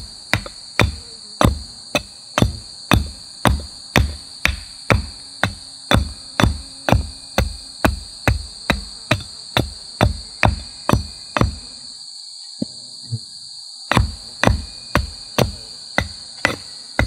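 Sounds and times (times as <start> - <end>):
axe chopping wood: 0.0 - 11.6, 13.9 - 17.0.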